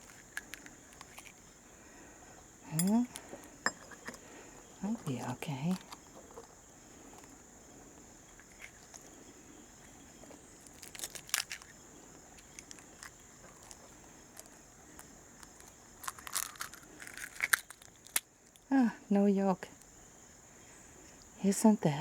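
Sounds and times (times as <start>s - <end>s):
eggshell cracking by hand: 0.0s - 9.2s, 9.8s - 18.7s
high insect drone: 0.0s - 22.0s.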